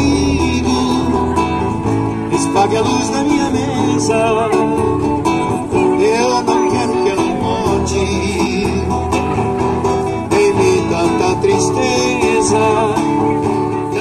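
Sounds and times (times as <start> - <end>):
guitar through speaker: 0.0 - 14.0.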